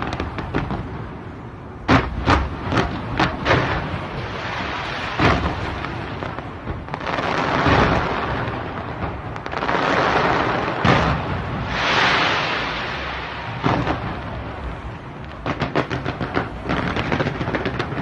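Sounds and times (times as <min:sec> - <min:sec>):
firework bangs: 0:00.0 - 0:18.0
fireworks crackling: 0:00.0 - 0:18.0.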